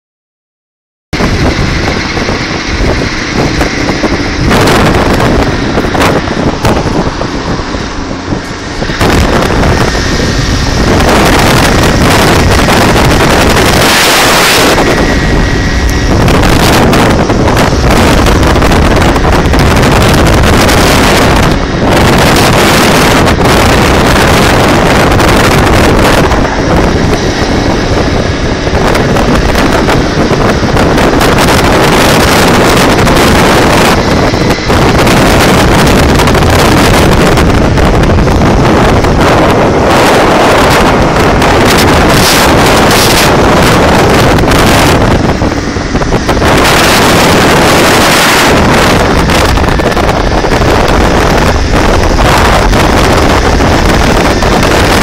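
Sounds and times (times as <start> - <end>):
road and traffic noise: 1.1 - 55.0
wind rushing over microphone: 1.1 - 55.0.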